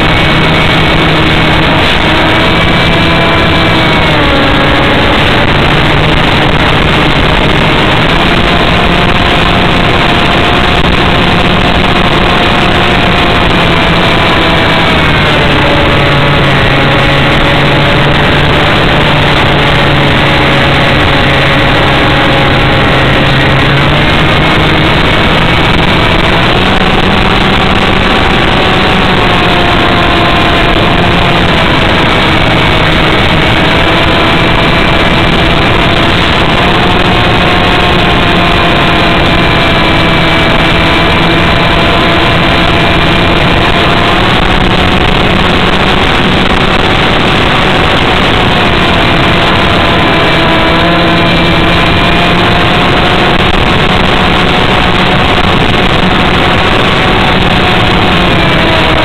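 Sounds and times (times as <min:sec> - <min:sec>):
droning motor tone: 0:00.0 - 0:59.0.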